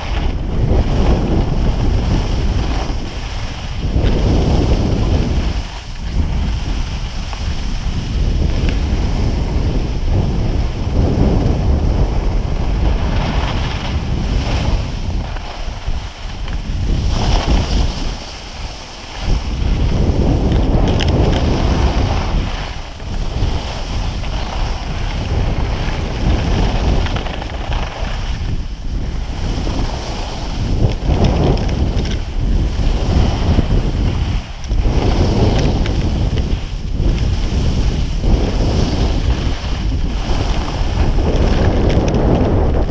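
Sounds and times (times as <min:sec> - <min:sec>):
skis hissing on snow: 0:00.0 - 0:41.8
wind buffeting microphone: 0:00.0 - 0:42.9.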